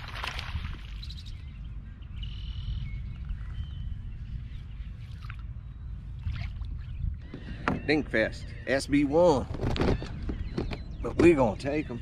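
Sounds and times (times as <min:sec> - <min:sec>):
wind rumble on microphone: 0:00.0 - 0:12.0
faint bird chirps: 0:00.9 - 0:12.0.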